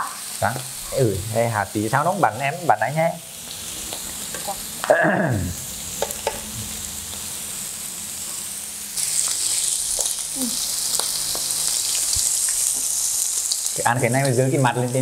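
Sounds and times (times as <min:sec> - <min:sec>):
meat sizzling on a griddle: 0:00.0 - 0:15.0.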